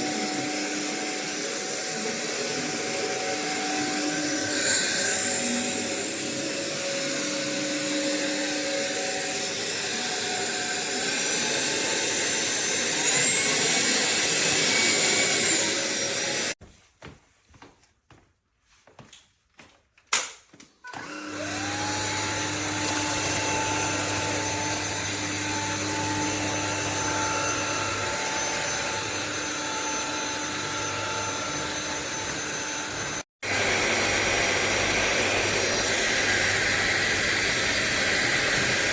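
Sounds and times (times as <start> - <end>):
stick vacuum motor whine: 0.0 - 16.6, 20.9 - 38.9.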